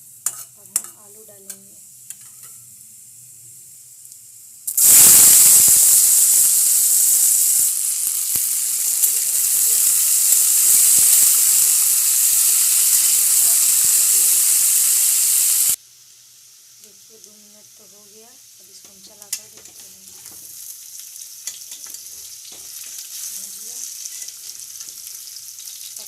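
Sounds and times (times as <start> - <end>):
potatoes sizzling in hot oil: 0.0 - 26.0.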